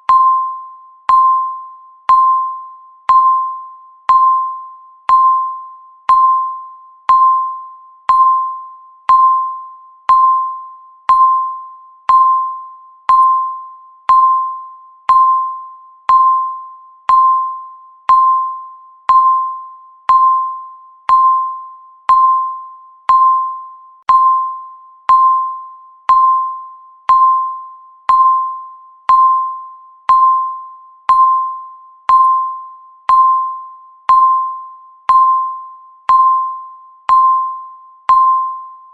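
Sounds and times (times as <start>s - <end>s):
electronic timer beep: 0.0s - 38.9s.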